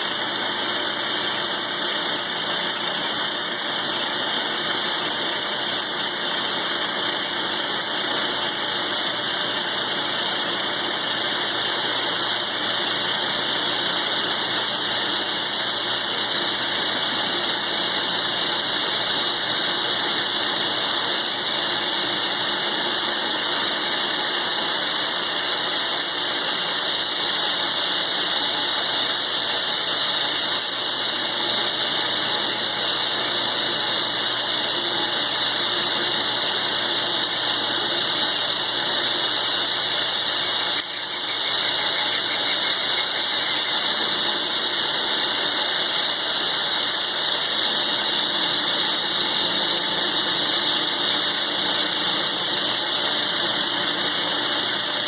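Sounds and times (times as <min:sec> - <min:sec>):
high-pitched metal cutting: 0:00.0 - 0:55.0
milling machine running: 0:00.0 - 0:55.0.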